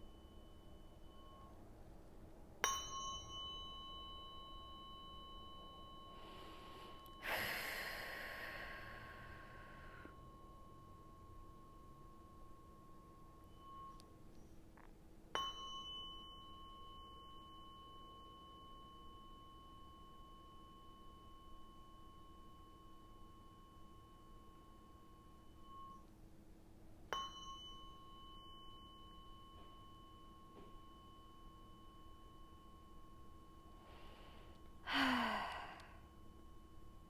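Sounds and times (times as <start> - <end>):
faint low hum: 0.0 - 37.0
tuning fork ringing: 0.0 - 37.0.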